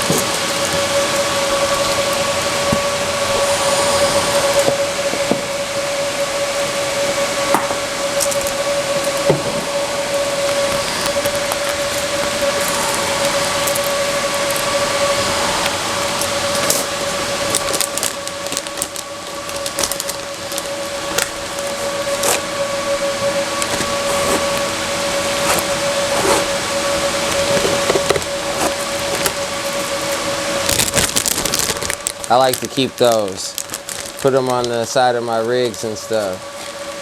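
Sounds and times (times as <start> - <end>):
machine hum with whining tone: 0.0 - 37.0.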